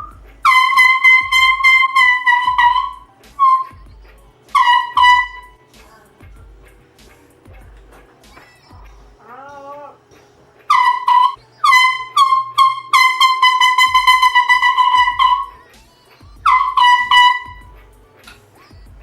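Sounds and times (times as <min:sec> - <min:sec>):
canned air horn honks: 0:00.0 - 0:09.2, 0:10.7 - 0:19.0.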